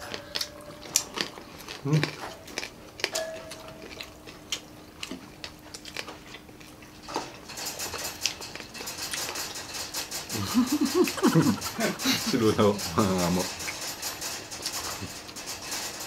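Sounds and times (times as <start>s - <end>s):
people chewing: 0.0s - 16.0s.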